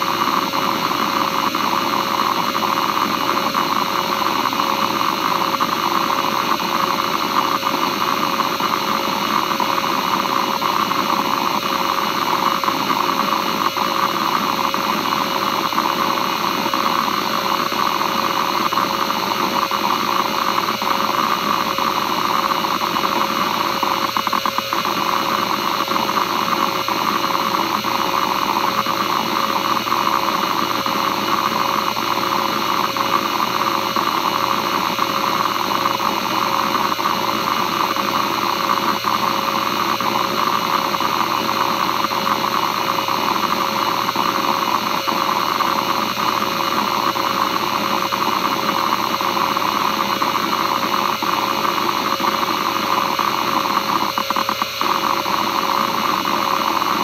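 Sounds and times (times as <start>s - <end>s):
hard drive platters spinning: 0.0s - 57.0s.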